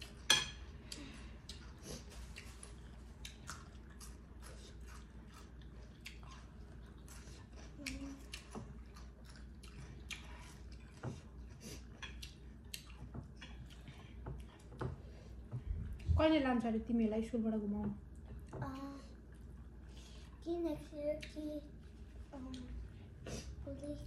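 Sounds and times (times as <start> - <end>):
people chewing food: 0.0 - 16.2, 18.0 - 24.0.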